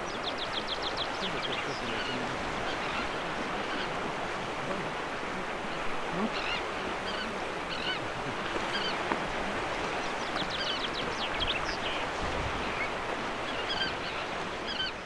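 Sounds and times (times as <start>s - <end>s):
sea waves and surf: 0.0s - 15.0s
terns calling: 0.0s - 15.0s.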